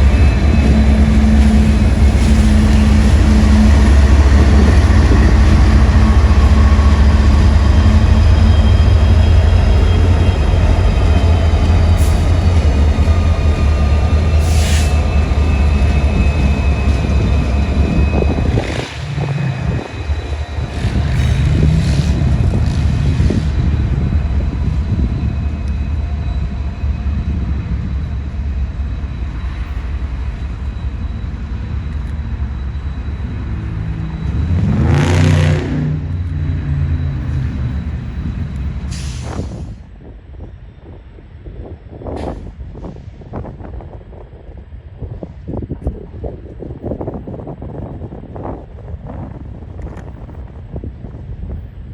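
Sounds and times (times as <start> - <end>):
train engine running low: 0.0 - 51.9.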